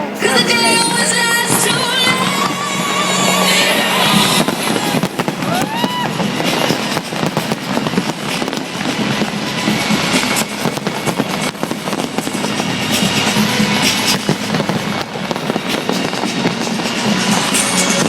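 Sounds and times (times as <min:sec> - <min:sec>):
fireworks bursting and crackling: 0:00.0 - 0:18.0
music playing: 0:00.0 - 0:18.0.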